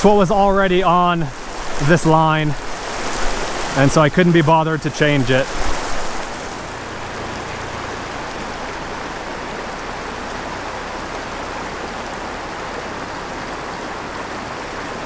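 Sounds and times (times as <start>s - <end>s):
stream flowing over stones: 0.0s - 15.0s.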